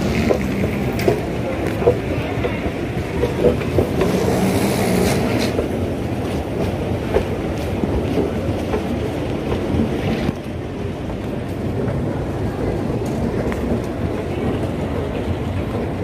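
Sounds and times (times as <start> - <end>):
airport terminal background rumble: 0.0 - 16.0.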